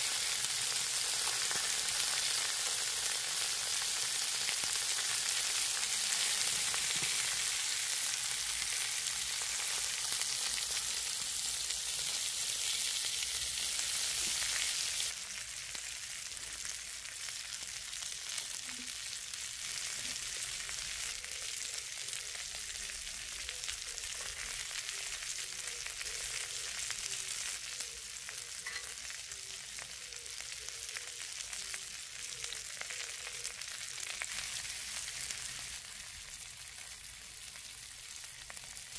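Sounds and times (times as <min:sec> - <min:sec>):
meat sizzling on a griddle: 0:00.0 - 0:38.9.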